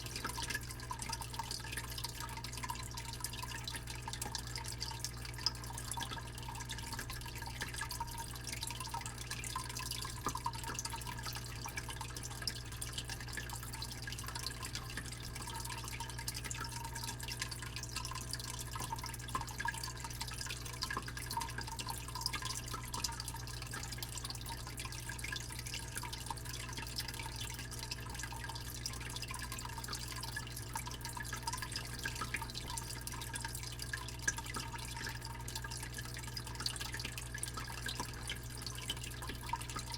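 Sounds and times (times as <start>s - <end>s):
fish tank pump humming: 0.0s - 39.9s
water trickling and dripping: 0.0s - 39.9s.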